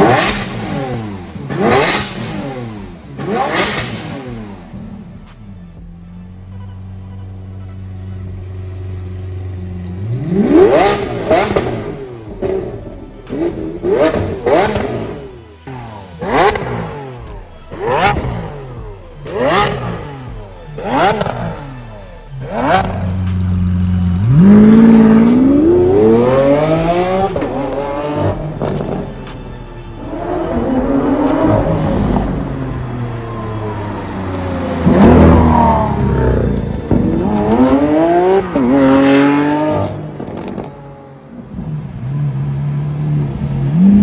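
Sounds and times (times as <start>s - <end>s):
sports car engine revving: 0.0s - 5.6s, 7.4s - 44.0s.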